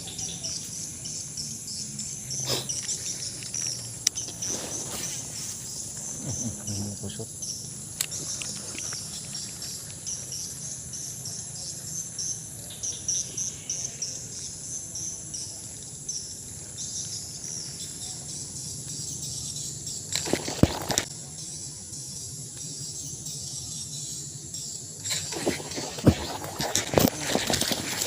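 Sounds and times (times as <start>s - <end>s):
high insect drone: 0.0s - 28.0s
insects chirping: 0.0s - 28.0s.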